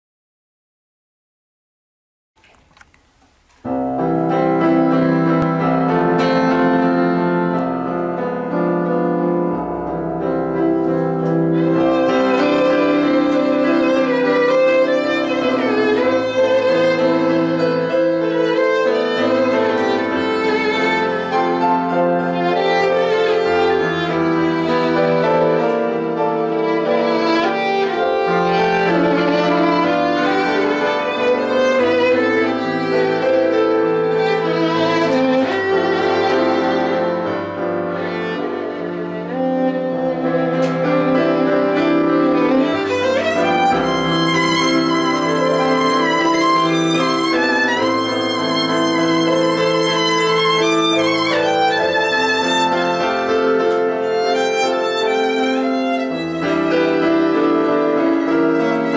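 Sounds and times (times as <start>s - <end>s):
violin melody with vibrato: 3.7s - 58.9s.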